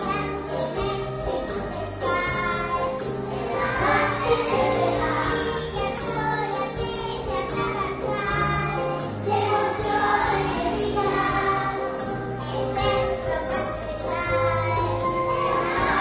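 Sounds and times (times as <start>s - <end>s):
children's choir singing: 0.0s - 16.0s
instrumental accompaniment: 0.0s - 16.0s.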